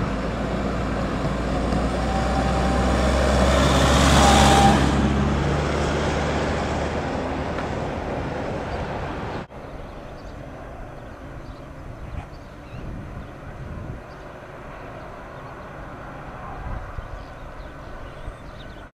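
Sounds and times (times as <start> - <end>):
freight train rumbling: 0.0 - 18.9.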